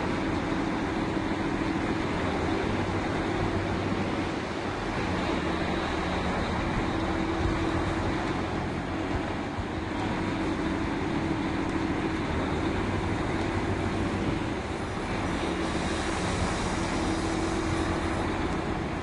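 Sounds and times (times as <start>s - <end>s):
drilling rig mechanical drone: 0.0s - 19.0s.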